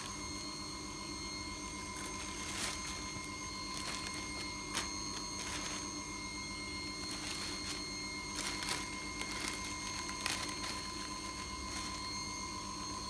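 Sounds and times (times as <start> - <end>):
steady background hum: 0.0 - 13.0
plastic bag crinkling: 1.2 - 13.0.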